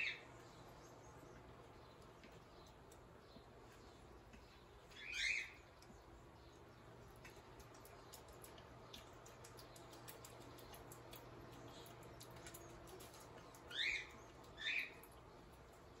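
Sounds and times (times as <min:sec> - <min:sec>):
animal chewing: 0:00.4 - 0:16.0.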